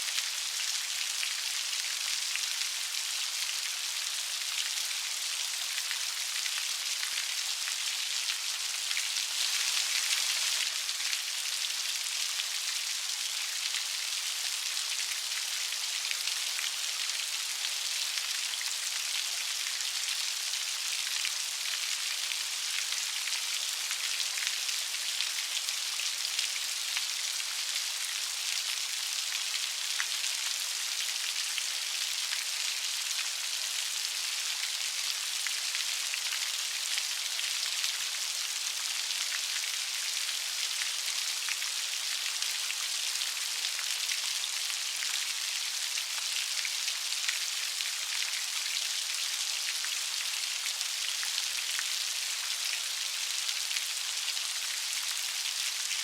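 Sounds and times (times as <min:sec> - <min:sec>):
light rain pattering: 0:00.0 - 0:56.0.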